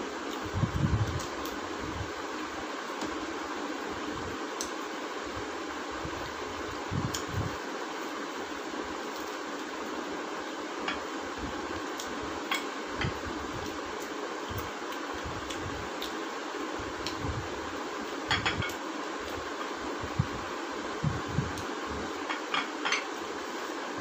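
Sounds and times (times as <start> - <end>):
room fan whooshing: 0.0 - 24.0.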